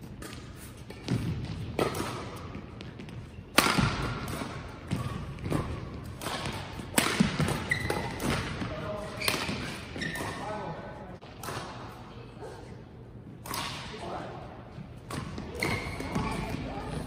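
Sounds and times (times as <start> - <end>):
rackets hitting shuttlecock: 0.0 - 10.6, 11.2 - 12.0, 13.4 - 14.1, 15.0 - 17.0.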